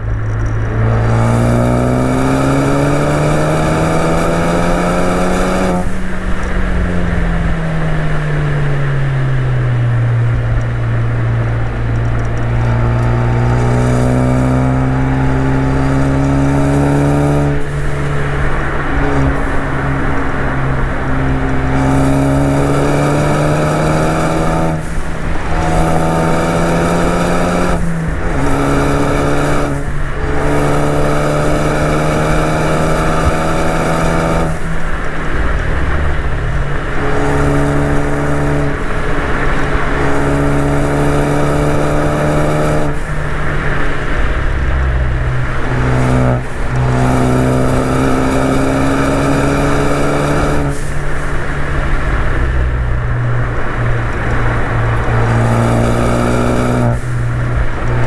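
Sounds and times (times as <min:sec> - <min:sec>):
car engine accelerating: 0:00.0 - 0:58.0
wind and road noise: 0:00.0 - 0:58.0.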